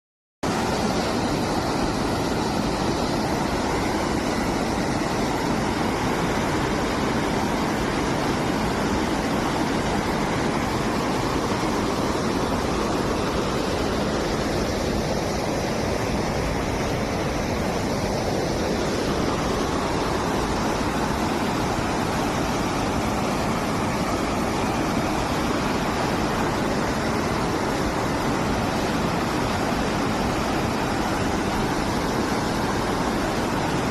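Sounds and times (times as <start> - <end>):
floodwater rushing in stream: 0.5 - 33.9.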